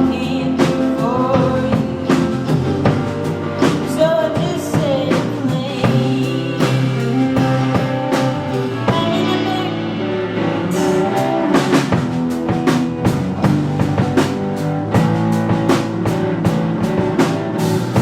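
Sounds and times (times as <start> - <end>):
drum kit beat: 0.0 - 18.0
rock band playing: 0.0 - 18.0.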